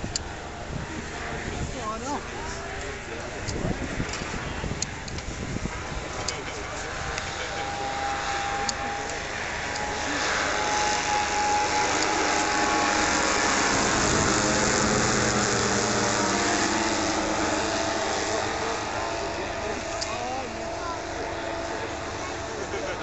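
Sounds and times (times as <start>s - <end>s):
propeller aircraft engines droning: 0.0s - 23.0s.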